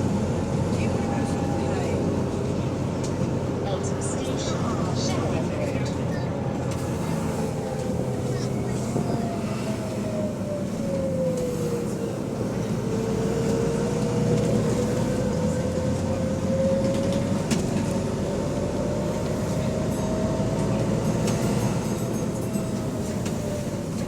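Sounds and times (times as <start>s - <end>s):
bus engine hum: 0.0s - 24.0s.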